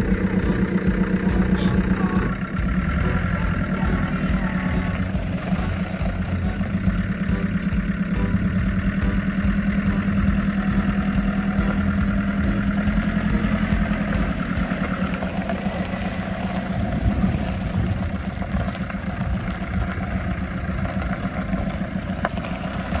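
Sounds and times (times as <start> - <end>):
van engine running: 0.0 - 23.0.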